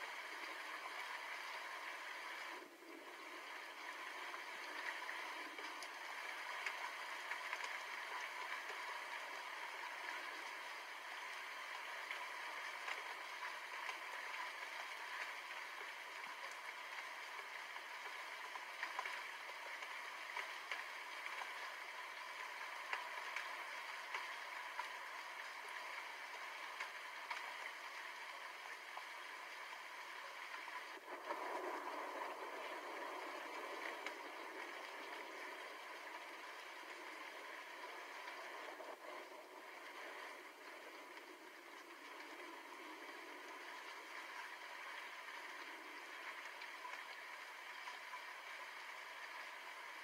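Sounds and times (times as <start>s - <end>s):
steady rainfall: 0.0s - 50.0s.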